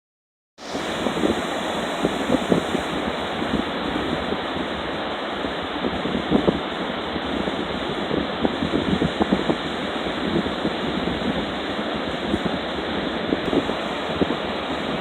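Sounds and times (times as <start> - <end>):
surf washing onto shore: 0.6 - 15.0
wind buffeting microphone: 0.6 - 15.0.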